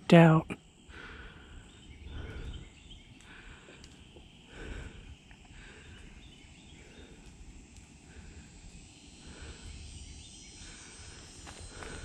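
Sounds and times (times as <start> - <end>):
high insect hum: 0.0 - 12.0.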